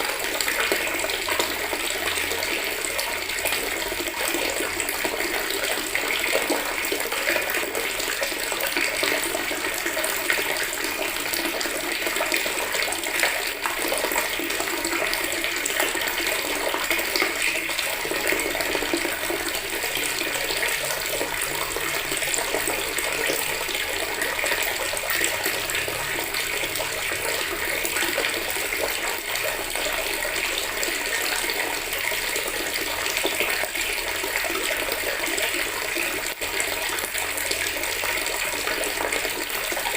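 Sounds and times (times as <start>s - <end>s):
tap running into a bucket: 0.0s - 39.9s.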